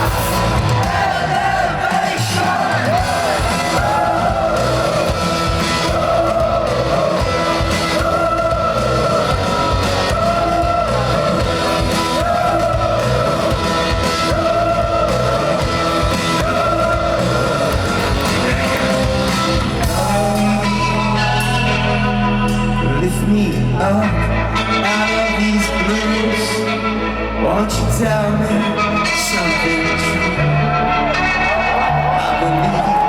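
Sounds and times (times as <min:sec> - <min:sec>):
drums: 0:00.0 - 0:26.8, 0:31.0 - 0:33.0
person singing: 0:00.0 - 0:31.4
bass guitar: 0:00.0 - 0:33.0.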